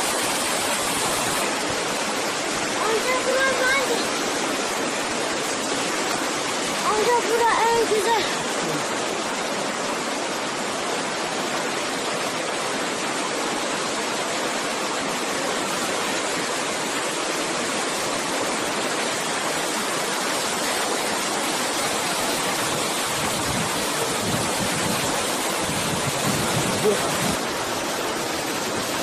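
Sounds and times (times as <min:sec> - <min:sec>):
waterfall rushing over rocks: 0:00.0 - 0:29.0.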